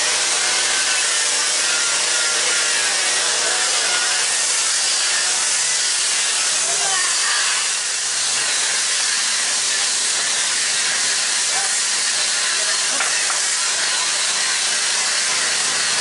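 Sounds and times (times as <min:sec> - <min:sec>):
loud steady hiss: 0:00.0 - 0:16.0.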